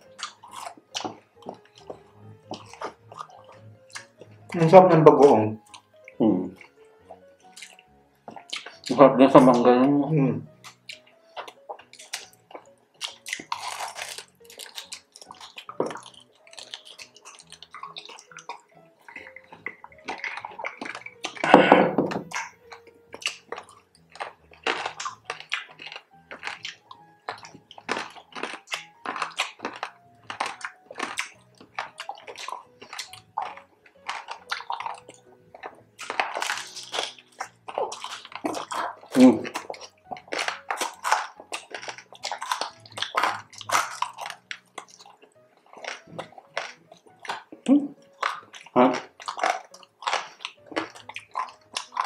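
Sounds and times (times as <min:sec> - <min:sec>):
crunchy chewing: 0:00.0 - 0:09.6, 0:10.4 - 0:52.0
wet mouth smacks: 0:05.7 - 0:09.0, 0:10.6 - 0:52.0.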